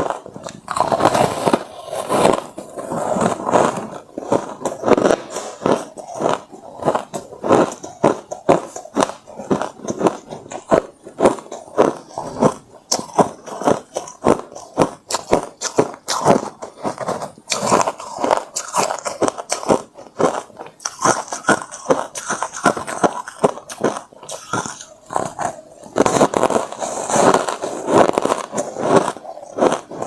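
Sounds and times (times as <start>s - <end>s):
person crunching ice: 0.0s - 30.0s.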